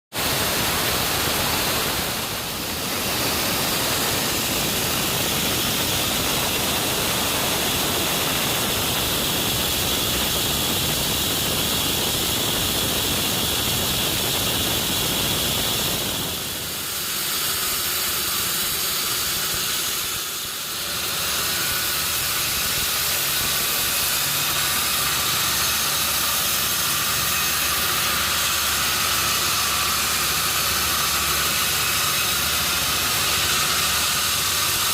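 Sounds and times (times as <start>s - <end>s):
sawmill machinery hissing: 0.1s - 34.9s.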